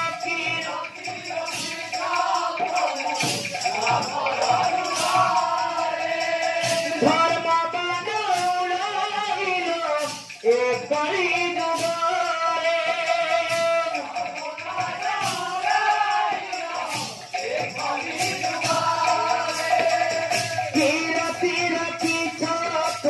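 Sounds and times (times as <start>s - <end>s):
man singing through microphone: 0.0s - 5.8s, 6.5s - 16.2s, 17.4s - 23.0s
hand cymbals: 0.0s - 23.0s.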